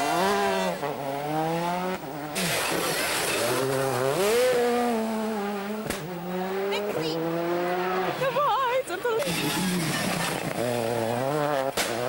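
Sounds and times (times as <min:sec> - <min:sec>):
car engine accelerating hard: 0:00.0 - 0:08.3, 0:09.2 - 0:12.0.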